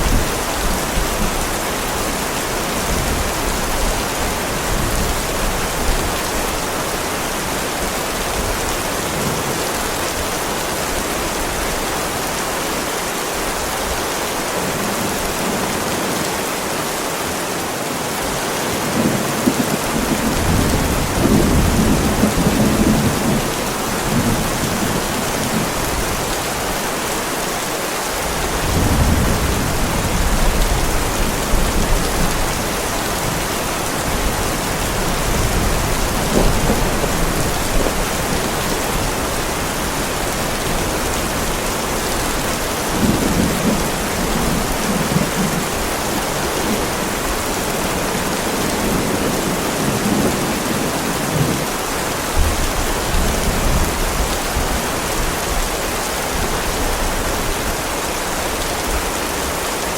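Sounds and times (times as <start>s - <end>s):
heavy rain on pavement: 0.0s - 59.9s.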